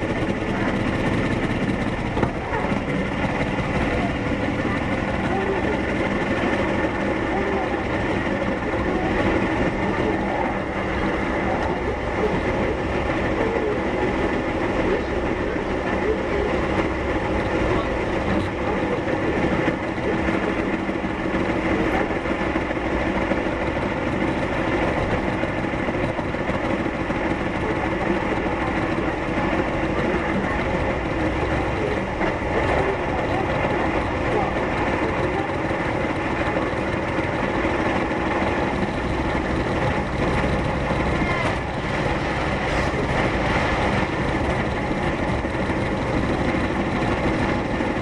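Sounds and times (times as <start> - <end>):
electric train running noise: 0.0 - 48.0.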